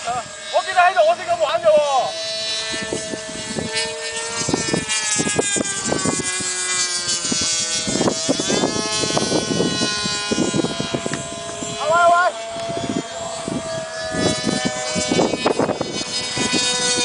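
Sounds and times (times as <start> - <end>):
model plane motor whining: 0.0 - 17.0
wind buffeting microphone: 0.0 - 17.0.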